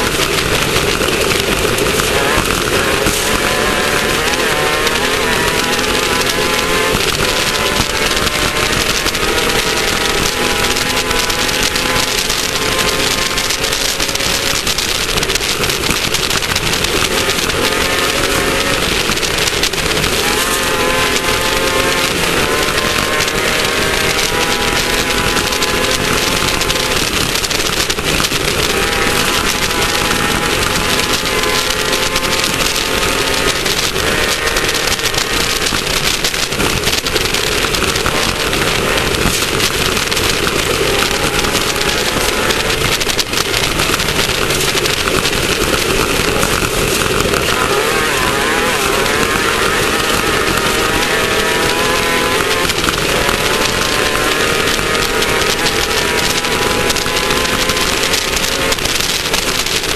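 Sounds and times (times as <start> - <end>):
loud steady rushing noise: 0.0 - 59.9
race car engine running hard: 0.0 - 59.9.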